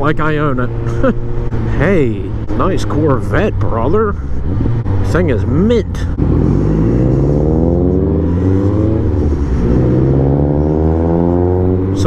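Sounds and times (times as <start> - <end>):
car accelerating: 0.0 - 12.0
motorcycle engine accelerating: 0.5 - 12.0.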